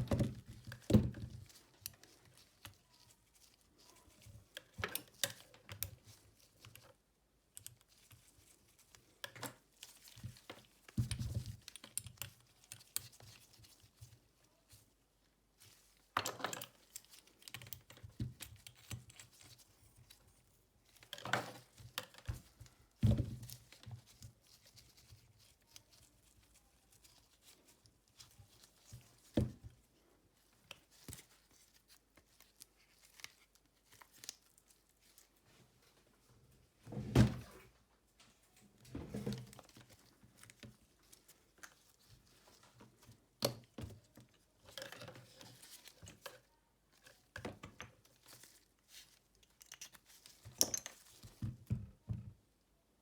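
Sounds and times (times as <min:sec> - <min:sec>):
rustling and crinkling: 0:00.0 - 0:52.7.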